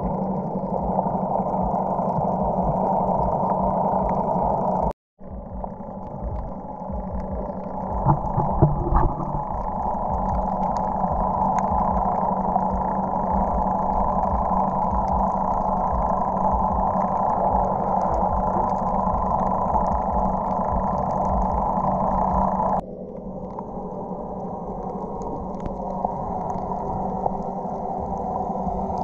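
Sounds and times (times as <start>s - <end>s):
boat engine droning underwater: 0.0s - 29.0s.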